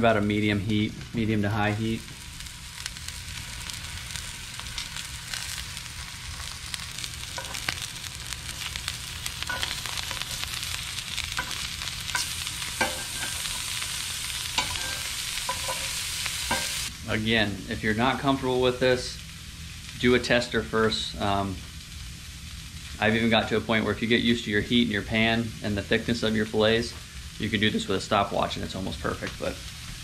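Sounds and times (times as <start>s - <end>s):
fish sizzling in oil: 0.3s - 30.0s.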